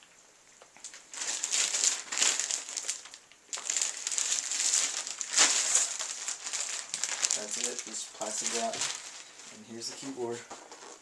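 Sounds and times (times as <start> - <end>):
plastic wrap crinkling: 0.6 - 11.0.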